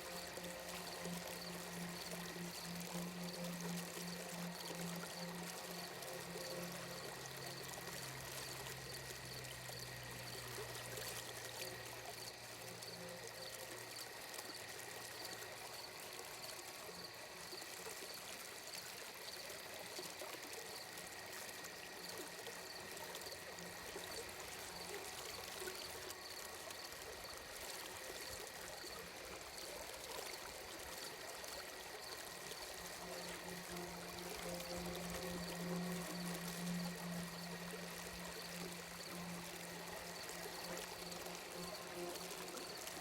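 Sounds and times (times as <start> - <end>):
faint steady tones: 0.0 - 43.0
trickling water: 0.0 - 43.0.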